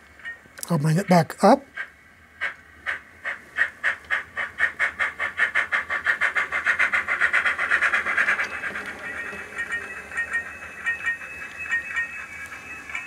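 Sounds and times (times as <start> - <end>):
model steam locomotive chuffing: 1.7 - 13.0.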